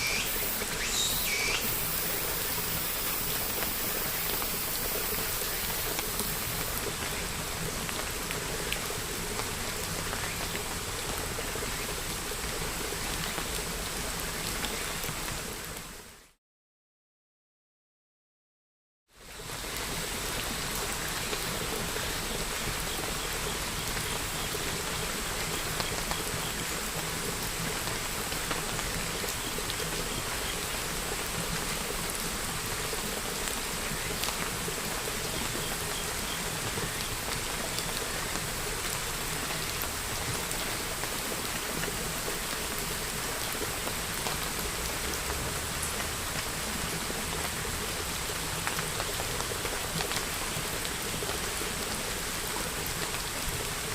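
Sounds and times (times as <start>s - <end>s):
steady rain hiss: 0.0s - 16.4s, 19.1s - 53.9s.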